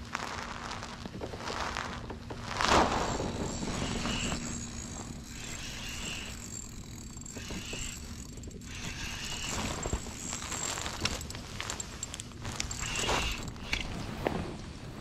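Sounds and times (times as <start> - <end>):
steady low hum: 0.0 - 15.0
small mechanism whirring: 0.7 - 14.5.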